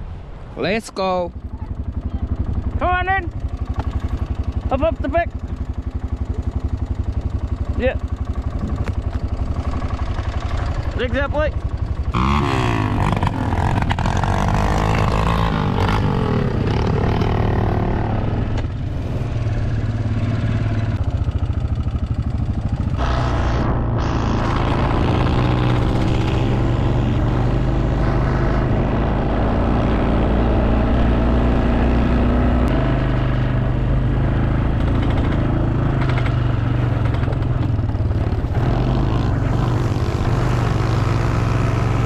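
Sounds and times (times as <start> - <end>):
quad bike engine running: 1.3 - 42.0.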